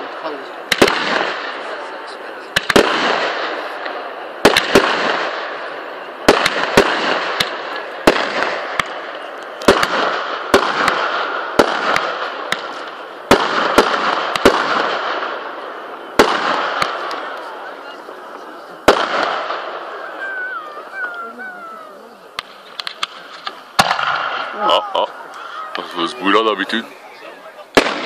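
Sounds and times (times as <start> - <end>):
firework bangs: 0.0 - 26.8, 27.4 - 28.0
firework crackle: 0.0 - 28.0.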